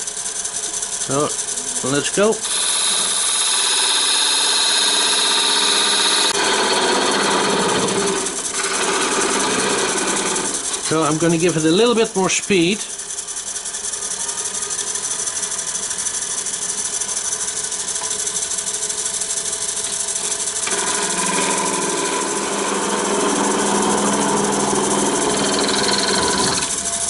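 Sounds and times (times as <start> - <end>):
tool cutting spinning wood: 0.0 - 27.0
wood lathe running: 0.0 - 27.0.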